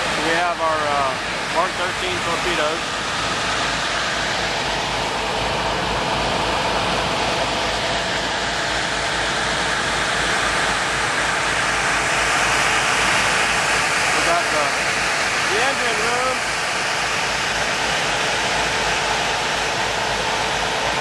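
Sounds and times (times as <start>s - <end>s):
boat engines roaring: 0.0s - 21.0s
rush of boat wake: 0.0s - 21.0s.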